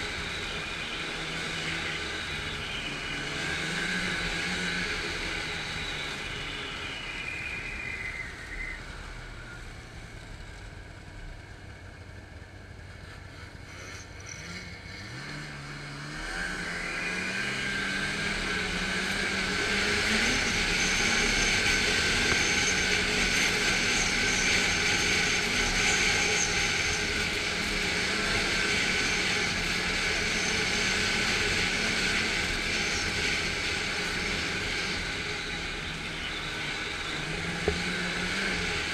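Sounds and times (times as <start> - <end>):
snowmobile engine and track: 0.0 - 38.9.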